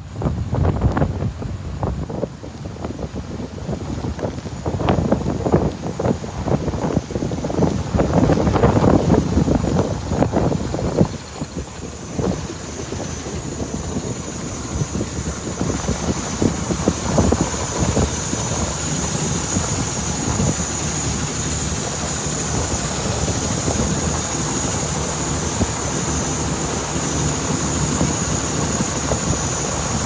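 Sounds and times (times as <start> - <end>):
storm wind buffeting microphone: 0.0 - 30.0.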